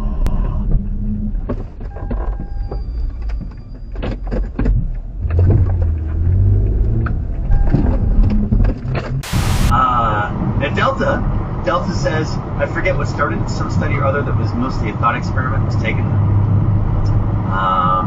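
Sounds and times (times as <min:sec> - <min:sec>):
road vehicle rumble: 0:00.0 - 0:18.0.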